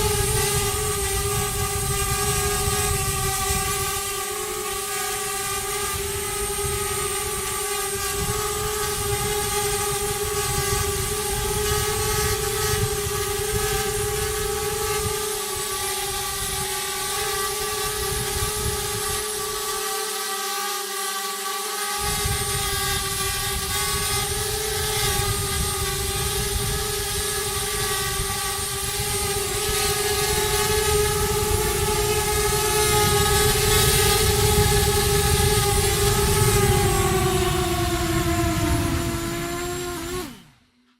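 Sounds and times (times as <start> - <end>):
drone propellers buzzing: 0.0 - 40.9.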